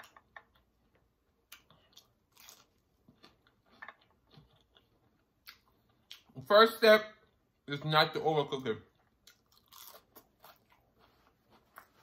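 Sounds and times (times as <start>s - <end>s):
faint chewing and crunching: 0.0s - 6.5s, 8.5s - 12.0s.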